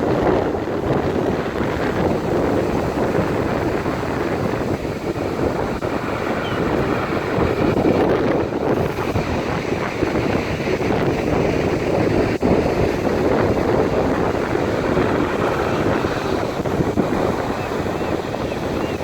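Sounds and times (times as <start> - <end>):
heavy waves rushing: 0.0 - 19.0
wind buffeting microphone: 0.0 - 19.0.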